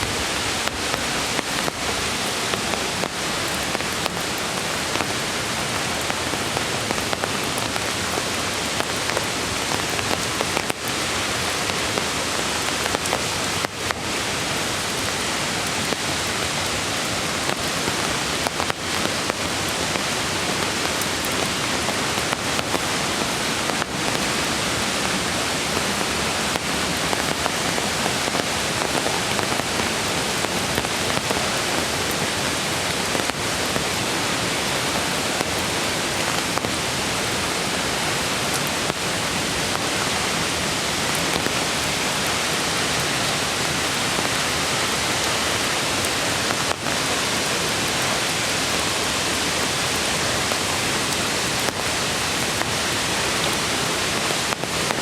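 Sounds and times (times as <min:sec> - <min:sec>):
rain falling in forest: 0:00.0 - 0:55.0
rushing creek water: 0:00.0 - 0:55.0.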